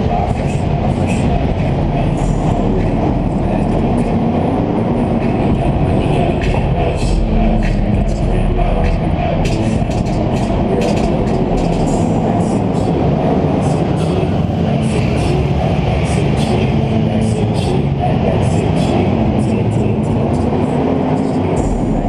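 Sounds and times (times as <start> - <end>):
car engines rumbling: 0.0 - 22.0.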